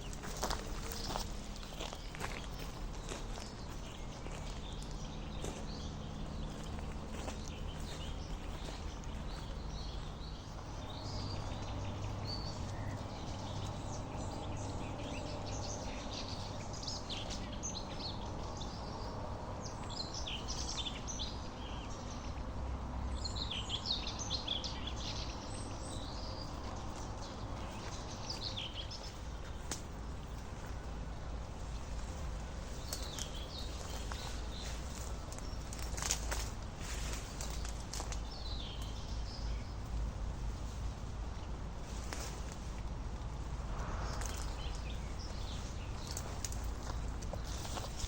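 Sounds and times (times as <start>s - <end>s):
low outdoor rumble: 0.0s - 48.0s
small birds chirping: 0.0s - 48.0s.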